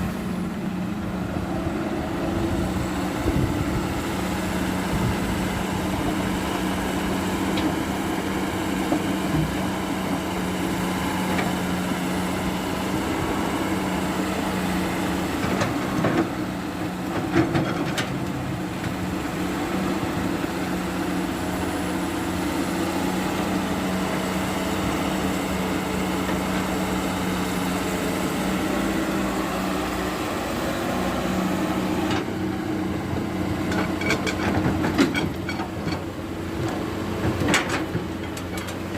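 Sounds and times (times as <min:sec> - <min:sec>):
diesel machinery running: 0:00.0 - 0:38.9.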